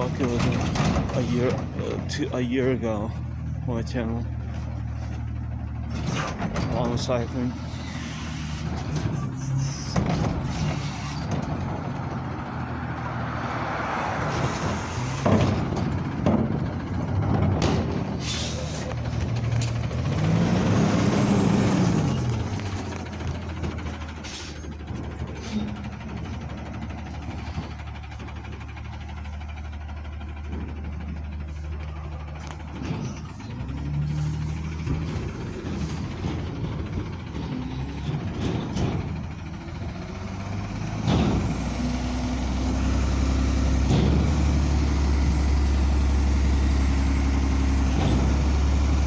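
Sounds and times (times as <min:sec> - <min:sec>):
garbage truck engine running: 0:00.0 - 0:49.0.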